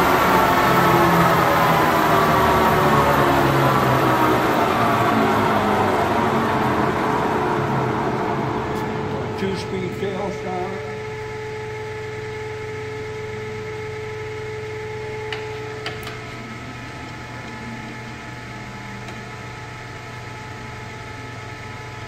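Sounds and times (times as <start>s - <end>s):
lathe humming and whining: 0.0s - 22.0s.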